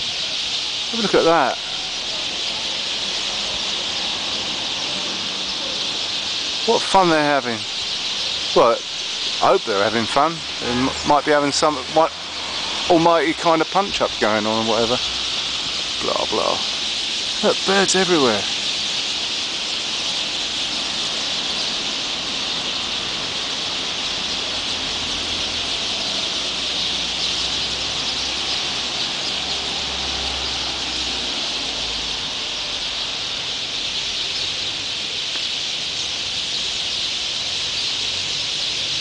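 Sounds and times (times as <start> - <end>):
flock of birds chattering: 0.0 - 39.0.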